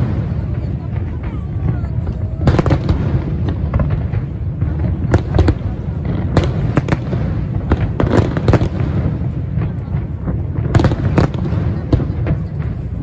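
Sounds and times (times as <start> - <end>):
low rumble of booming fireworks: 0.0 - 13.0
sharp firework bangs: 0.0 - 13.0.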